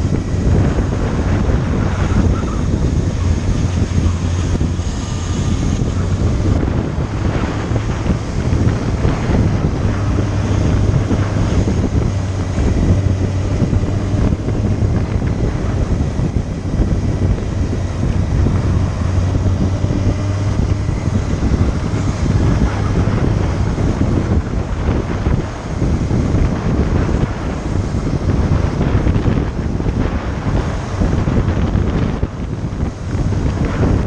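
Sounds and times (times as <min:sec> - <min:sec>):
motorcycle engine running: 0:00.0 - 0:34.0
wind buffeting microphone: 0:00.0 - 0:34.0.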